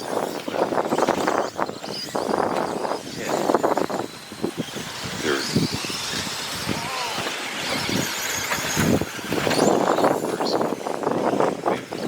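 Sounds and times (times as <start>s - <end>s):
toy truck motors accelerating: 0.0s - 12.0s.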